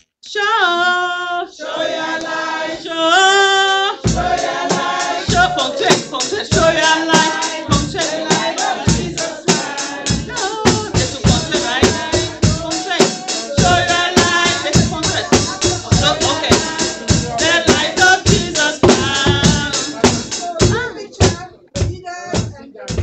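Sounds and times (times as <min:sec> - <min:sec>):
voices singing gospel: 0:00.3 - 0:22.6
steady drum beat: 0:04.0 - 0:23.0.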